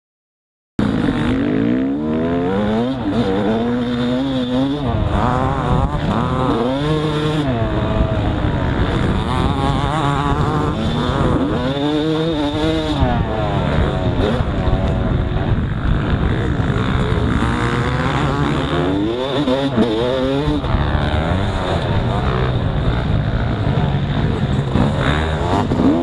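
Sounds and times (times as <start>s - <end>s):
dirt bike engine revving: 0.8s - 26.0s
wind and track noise: 0.8s - 26.0s.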